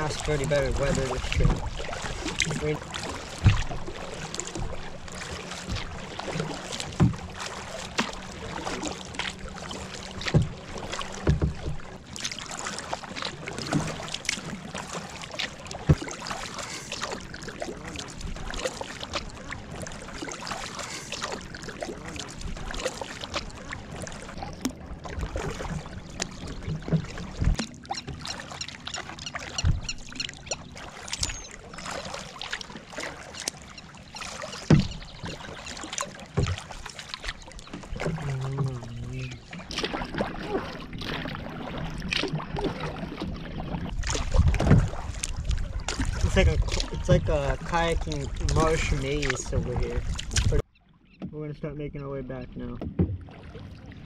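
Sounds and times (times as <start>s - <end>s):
paddle splashing in water: 0.0s - 51.4s, 52.0s - 54.0s.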